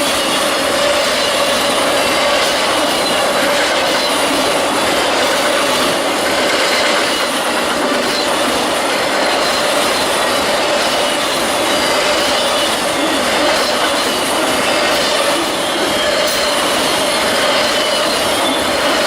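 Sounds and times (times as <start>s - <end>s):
train wheel whine: 0.0s - 19.0s
train wheels rolling on rails: 0.0s - 19.0s.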